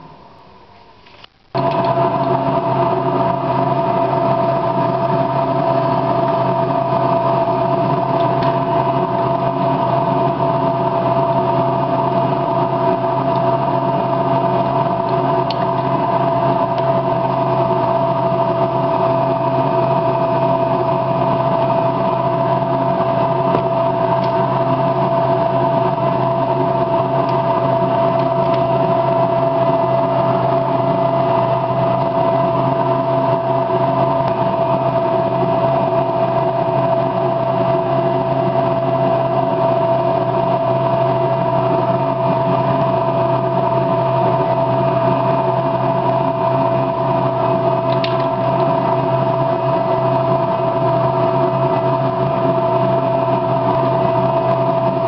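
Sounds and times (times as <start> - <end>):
motor humming with whine: 0.0 - 55.0.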